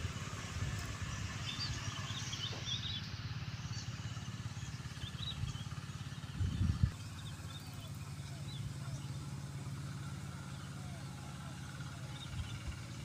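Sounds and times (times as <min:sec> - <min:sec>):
small birds chirping: 0:00.0 - 0:13.0
small engine rumbling: 0:00.0 - 0:13.0.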